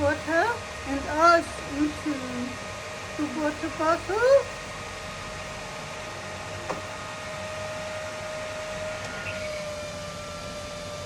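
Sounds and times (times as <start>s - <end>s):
electric fan whining: 0.0s - 11.0s.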